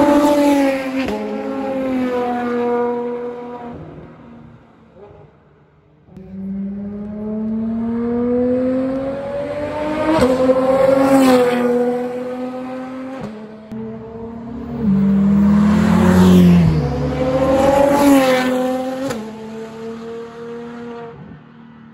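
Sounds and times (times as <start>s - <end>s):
race cars passing at speed: 0.0s - 21.9s.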